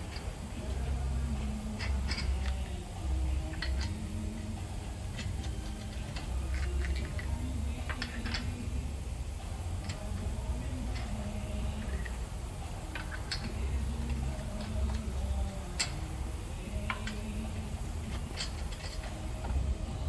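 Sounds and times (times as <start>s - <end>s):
hand tools clicking and clinking: 0.0s - 8.8s, 9.7s - 20.0s
steady low hum: 0.0s - 20.0s.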